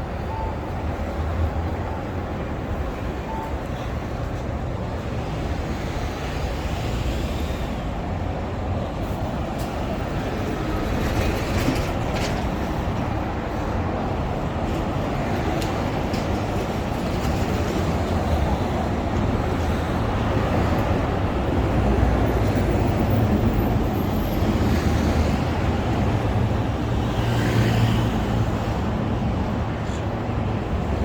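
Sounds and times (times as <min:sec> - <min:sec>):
low rumble of city traffic: 0:00.0 - 0:31.0.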